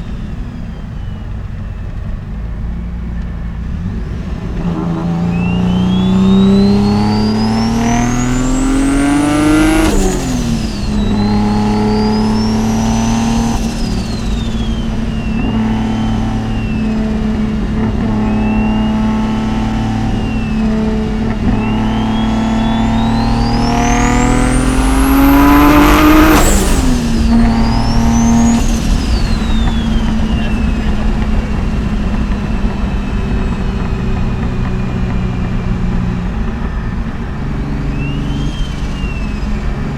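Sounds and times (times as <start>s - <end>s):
car engine accelerating hard: 0.0s - 39.9s
high turbo whistle: 3.8s - 39.9s.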